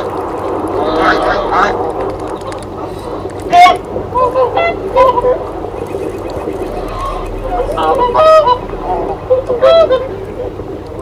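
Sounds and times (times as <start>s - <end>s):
geese honking: 0.8s - 1.8s, 2.9s - 11.0s.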